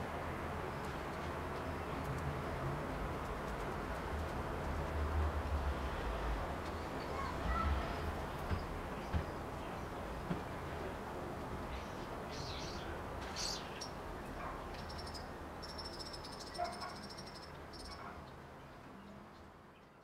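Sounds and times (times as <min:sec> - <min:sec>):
outdoor evening background noise: 0:00.0 - 0:20.0.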